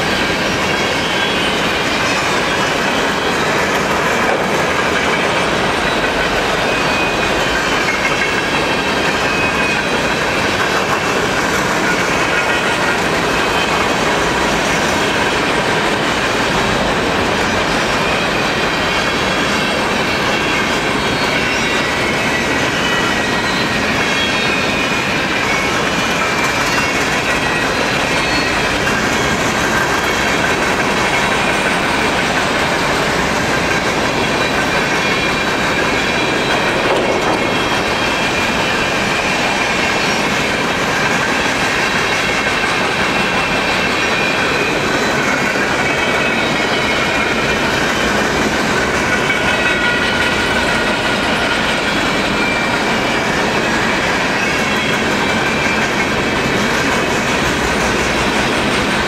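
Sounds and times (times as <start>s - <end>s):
high wheel squeal: 0.0s - 59.0s
train wheels rumbling on rails: 0.0s - 59.0s.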